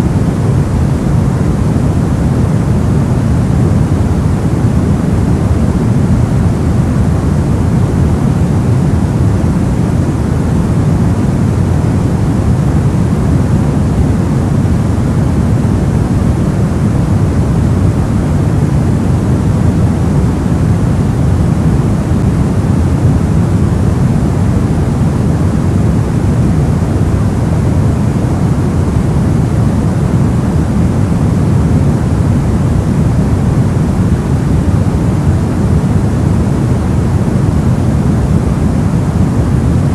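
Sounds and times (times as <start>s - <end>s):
soft white noise: 0.0s - 39.9s.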